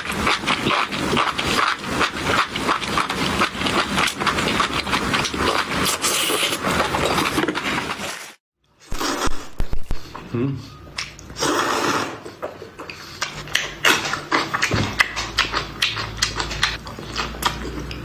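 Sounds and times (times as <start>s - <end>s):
wet chewing and mouth noises: 0.0s - 8.2s, 10.8s - 18.0s.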